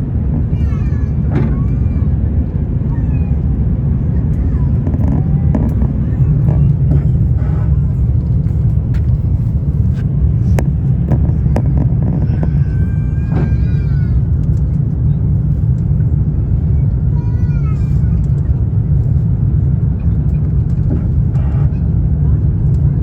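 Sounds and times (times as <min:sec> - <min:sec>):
loud steady low rumble: 0:00.0 - 0:23.0.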